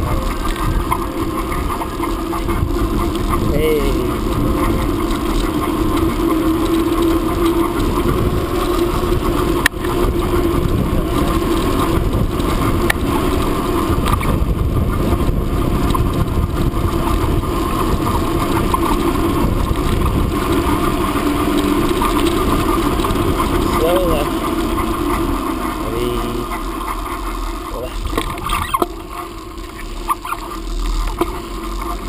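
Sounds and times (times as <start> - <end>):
bicycle tyres on path: 0.0 - 32.0
wind buffeting microphone: 0.0 - 32.0.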